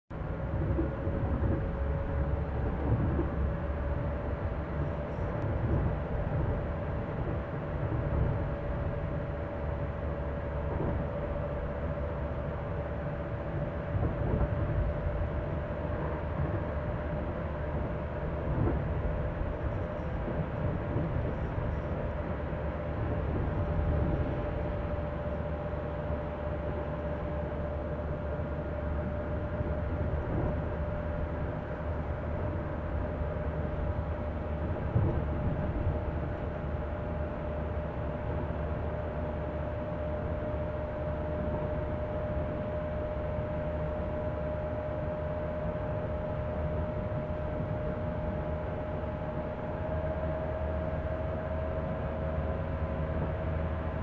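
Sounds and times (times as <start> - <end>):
train carriages rumbling past: 0.1 - 54.0
train hum: 0.1 - 54.0.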